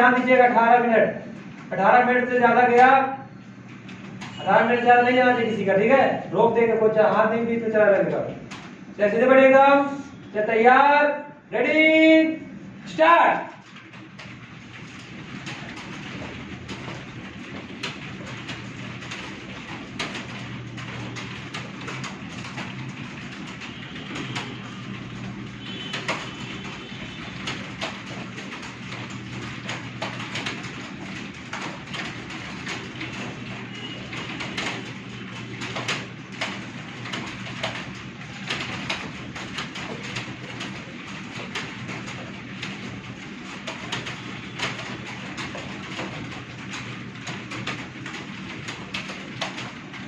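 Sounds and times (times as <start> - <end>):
many keyboards clacking: 0.0 - 50.0.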